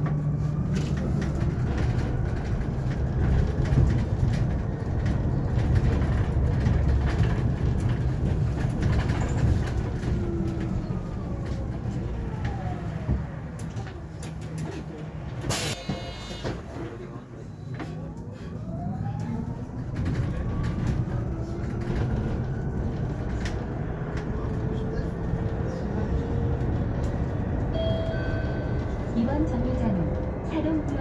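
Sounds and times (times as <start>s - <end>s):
bus road rumble inside cabin: 0.0s - 31.0s.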